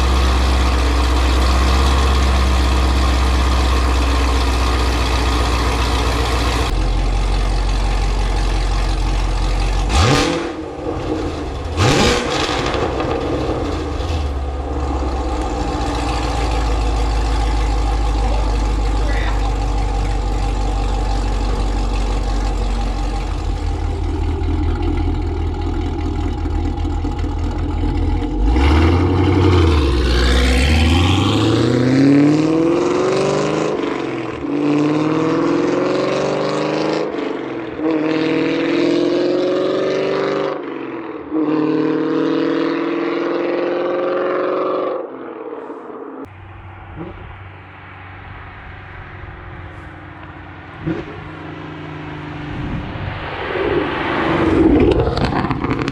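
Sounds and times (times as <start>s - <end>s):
car engine accelerating through gears: 8.9s - 47.6s, 49.5s - 55.9s.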